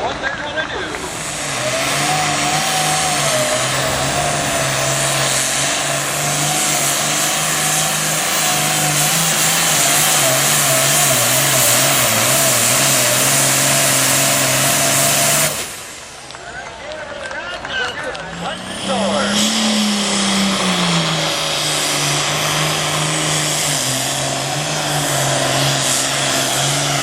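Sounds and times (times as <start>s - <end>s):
diesel tractor engine under load: 0.0s - 27.0s.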